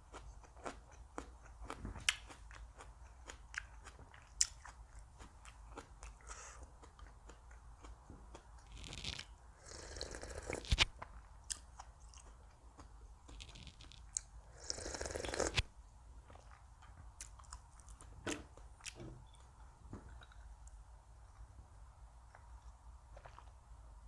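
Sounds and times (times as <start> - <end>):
person chewing crisp food: 0.0 - 21.6, 22.2 - 23.7.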